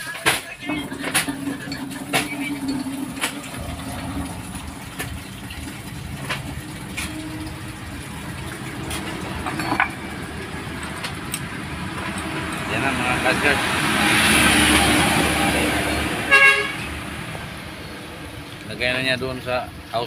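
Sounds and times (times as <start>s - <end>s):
vehicle engine idling: 0.6s - 20.0s.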